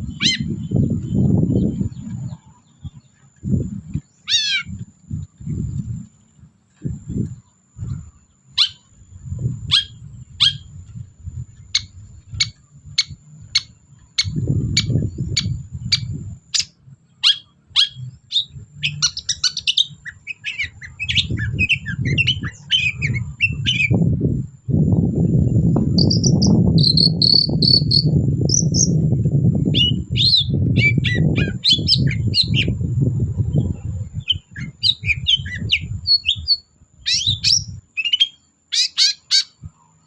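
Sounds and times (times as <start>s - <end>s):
low rumbling noise: 0.0s - 37.9s.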